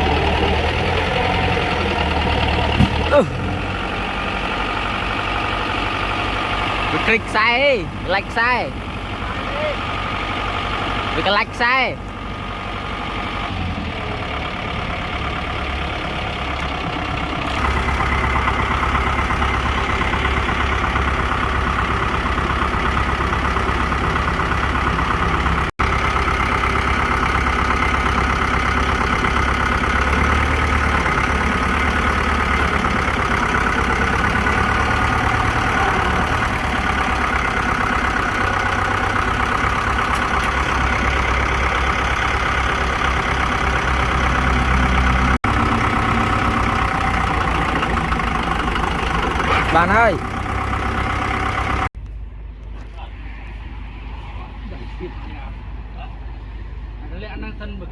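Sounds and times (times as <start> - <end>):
tractor diesel engine running: 0.0 - 52.7.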